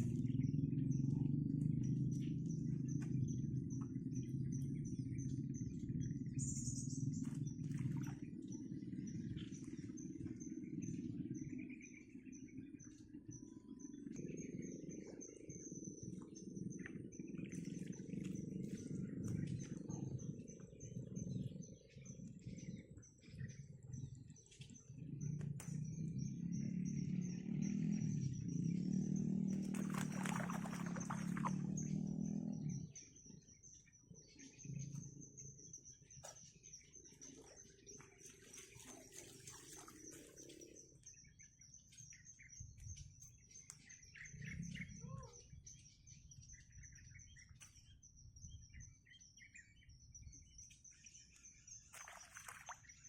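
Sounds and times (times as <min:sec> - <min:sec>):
outdoor background rumble: 0:00.0 - 0:39.1, 0:39.9 - 0:51.8.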